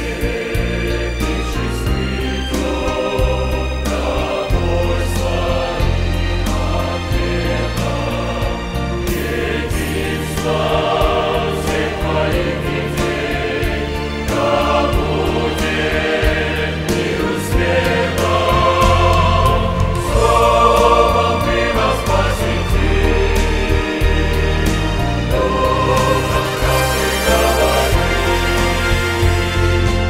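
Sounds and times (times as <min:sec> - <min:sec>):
mixed choir singing a hymn: 0:00.0 - 0:30.0.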